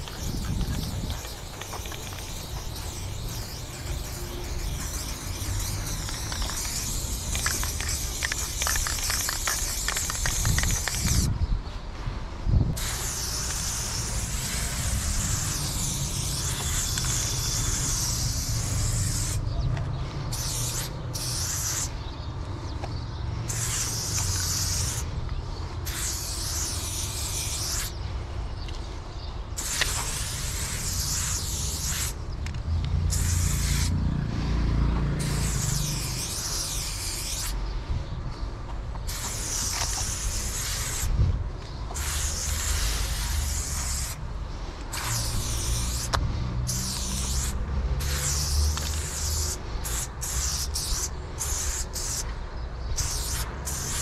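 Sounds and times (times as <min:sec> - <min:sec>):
spray paint can hissing: 0:00.0 - 0:11.4, 0:12.8 - 0:19.6, 0:20.3 - 0:22.1, 0:23.4 - 0:28.0, 0:29.5 - 0:34.0, 0:35.2 - 0:38.2, 0:39.0 - 0:54.0.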